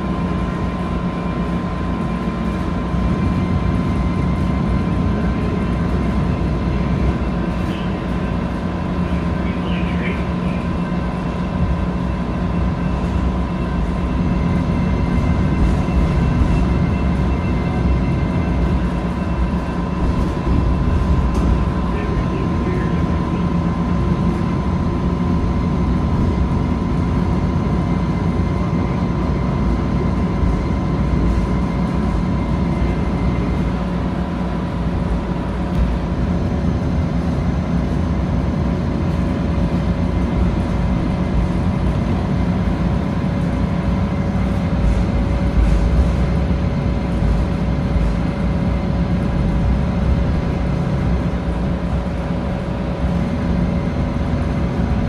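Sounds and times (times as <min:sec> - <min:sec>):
light rail car rumble: 0:00.0 - 0:55.0
steady whine: 0:00.0 - 0:55.0.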